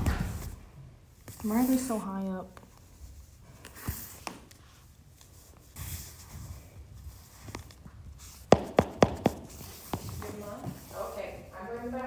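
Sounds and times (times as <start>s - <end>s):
ribbons and satin rustling: 0.0s - 12.0s.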